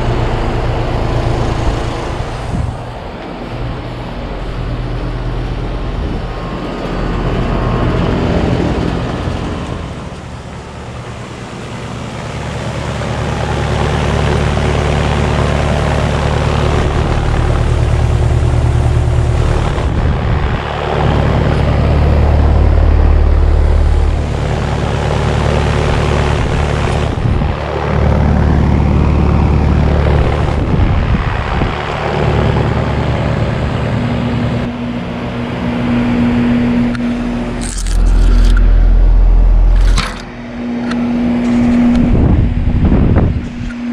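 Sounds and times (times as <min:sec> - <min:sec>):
condenser fan rushing: 0:00.0 - 0:43.9
heat pump humming: 0:00.0 - 0:43.9.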